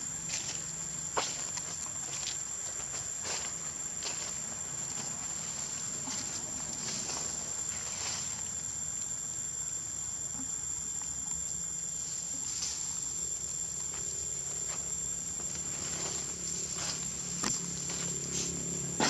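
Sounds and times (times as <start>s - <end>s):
insects droning: 0.0s - 19.0s
rustles in dry leaves: 0.2s - 8.9s, 12.0s - 19.0s.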